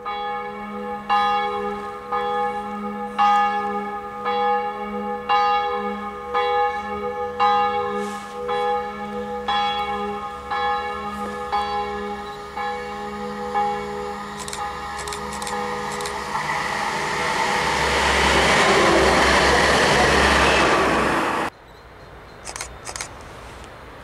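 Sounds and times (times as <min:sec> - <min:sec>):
church bell tolling: 0:00.0 - 0:20.8.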